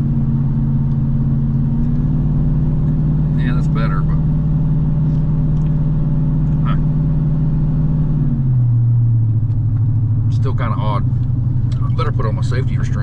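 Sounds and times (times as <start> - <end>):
car engine idling inside cabin: 0.0 - 13.0.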